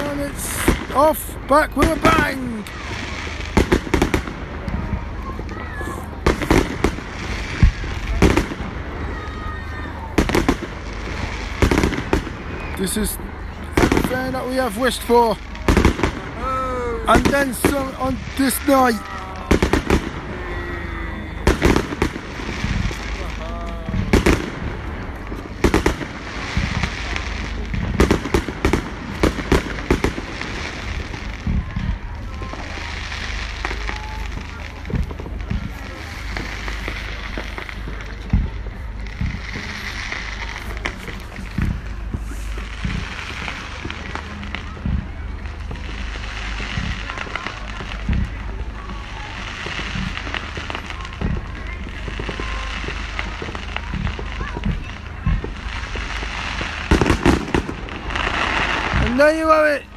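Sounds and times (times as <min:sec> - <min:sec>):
firework crackle: 0:00.0 - 0:59.9.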